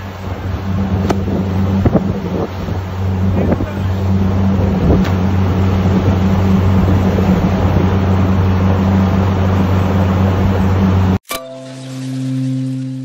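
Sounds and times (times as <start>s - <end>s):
wind on microphone: 0.0s - 11.2s
motorboat engine humming: 0.0s - 13.0s
water churning: 0.0s - 13.0s.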